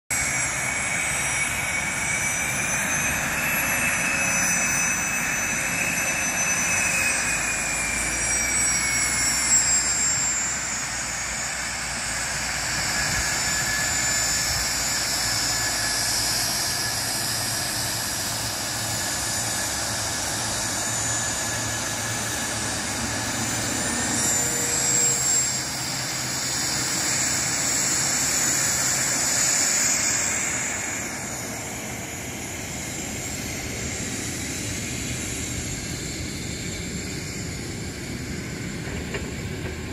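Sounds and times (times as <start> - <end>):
jet engine whine: 0.1 - 39.9.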